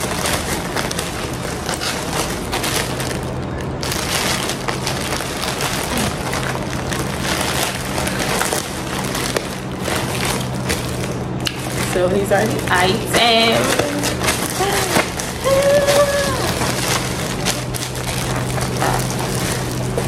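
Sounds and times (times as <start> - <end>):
plastic bag crinkling and tearing: 0.0 - 20.0.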